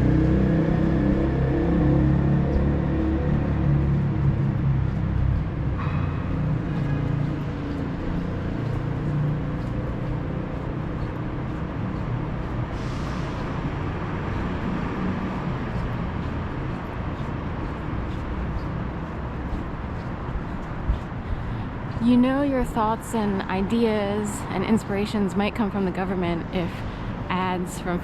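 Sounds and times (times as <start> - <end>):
passing vehicles rumbling: 0.0 - 28.0.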